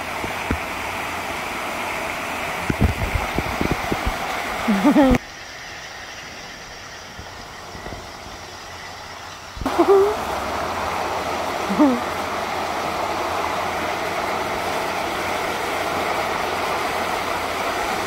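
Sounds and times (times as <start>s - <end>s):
waterfall splashing into pool: 0.0s - 18.0s.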